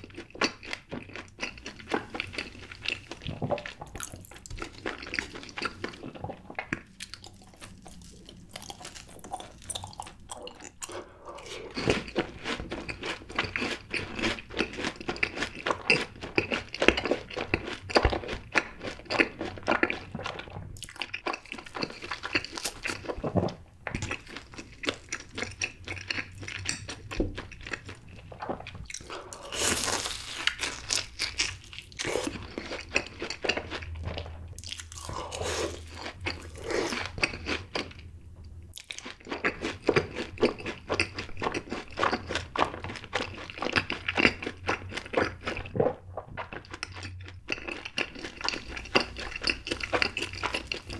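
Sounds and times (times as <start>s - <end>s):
crunching and chewing: 0.0s - 38.1s, 38.7s - 50.9s.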